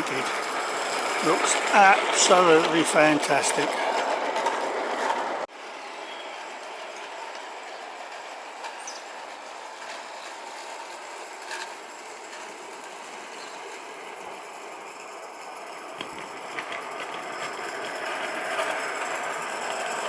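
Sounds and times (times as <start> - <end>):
model steam locomotive running: 0.0 - 20.0.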